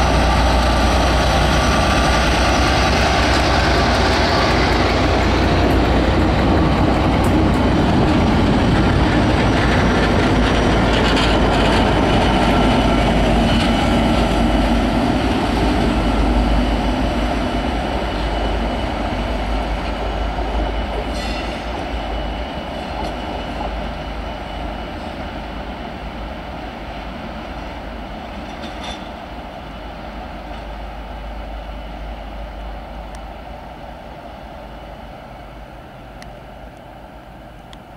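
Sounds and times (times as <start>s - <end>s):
diesel train engine rumble: 0.0s - 37.9s.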